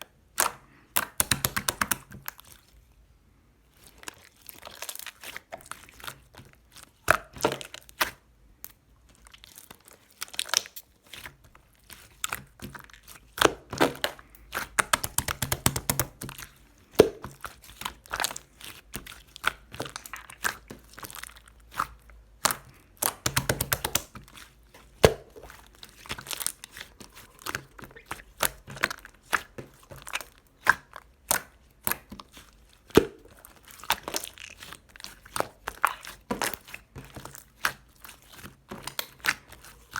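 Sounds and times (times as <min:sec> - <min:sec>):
slime squished by hand: 0:00.2 - 0:02.8, 0:03.7 - 0:39.9.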